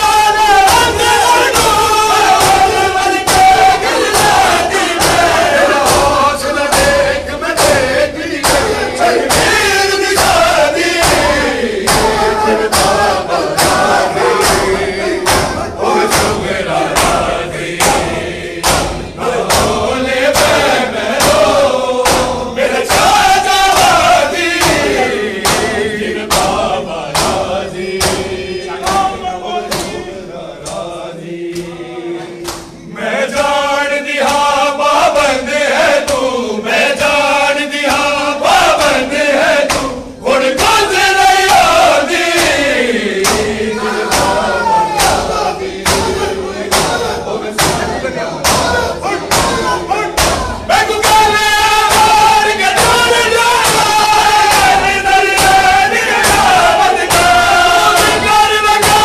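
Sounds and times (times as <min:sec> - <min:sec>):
hands beating chests: 0:00.0 - 0:30.9, 0:32.4 - 0:59.0
crowd of men chanting: 0:00.0 - 0:59.0.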